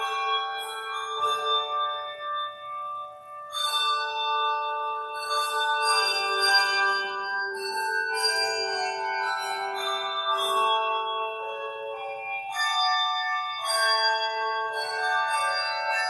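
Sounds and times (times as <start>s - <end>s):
handbells playing a melody: 0.0s - 16.0s.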